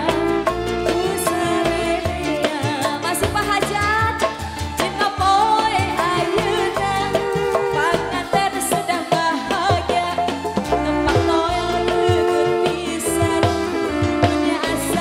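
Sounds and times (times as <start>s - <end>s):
band with bass and drums: 0.0s - 15.0s
woman singing into a microphone: 0.0s - 15.0s.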